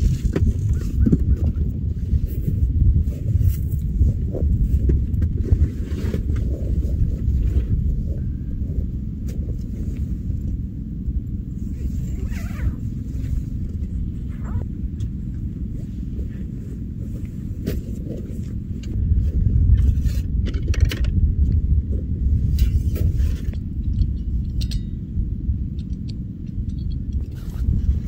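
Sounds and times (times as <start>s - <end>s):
gear clicking and scraping: 0.0s - 10.6s, 11.5s - 28.0s
wind buffeting microphone: 0.0s - 28.0s.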